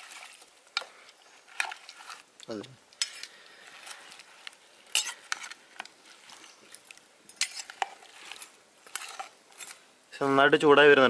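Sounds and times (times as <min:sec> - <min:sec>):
metal ladle scraping a pot: 0:00.0 - 0:09.9.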